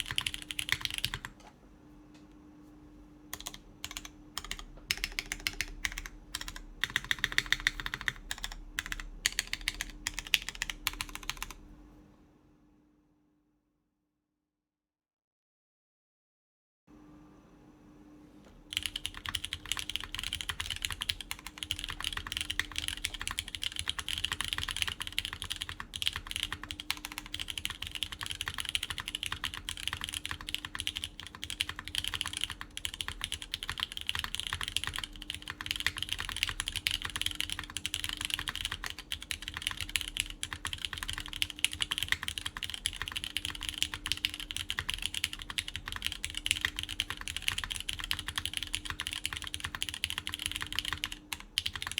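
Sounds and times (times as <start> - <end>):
fast typing on mechanical keyboard: 0.0 - 1.4, 3.4 - 11.6, 18.7 - 51.9
faint hum: 0.0 - 13.5, 16.9 - 51.9.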